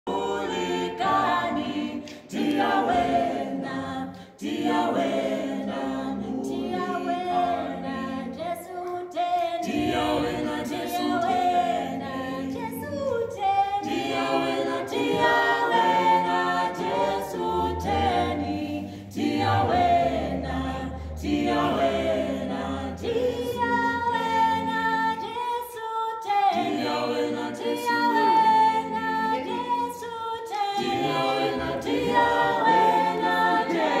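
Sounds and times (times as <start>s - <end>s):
gospel group singing in harmony: 0.0s - 34.0s.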